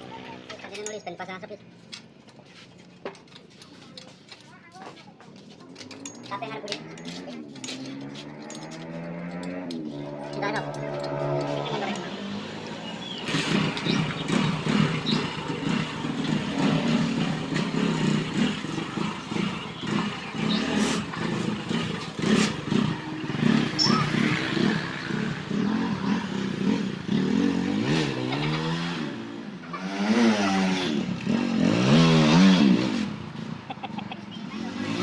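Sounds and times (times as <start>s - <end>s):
motorcycle engine revving: 5.7s - 35.0s.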